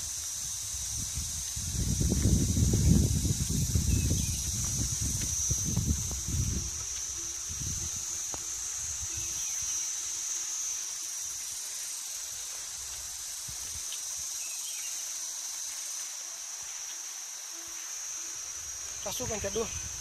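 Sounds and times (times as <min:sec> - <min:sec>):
faint hiss: 0:00.0 - 0:20.0
insects droning: 0:00.0 - 0:20.0.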